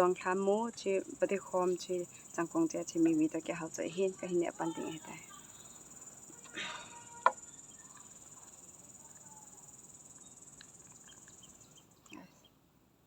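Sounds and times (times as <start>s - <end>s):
crickets trilling: 0.0s - 12.6s.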